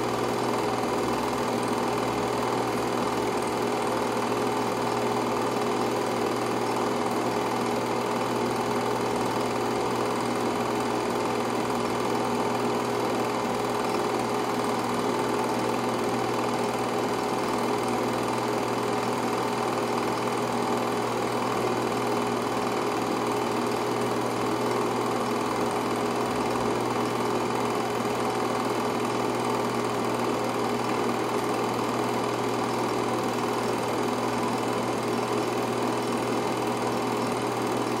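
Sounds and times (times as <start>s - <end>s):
film projector whirring: 0.0s - 38.0s.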